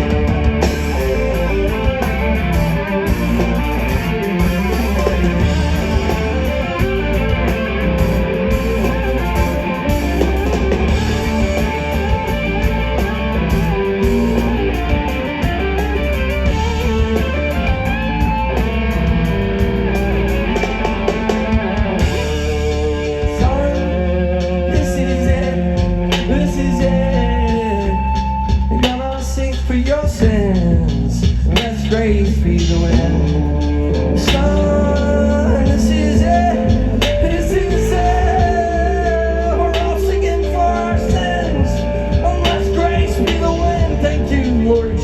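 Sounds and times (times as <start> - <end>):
electric guitars: 0.0 - 45.0
live rock band playing: 0.0 - 45.0.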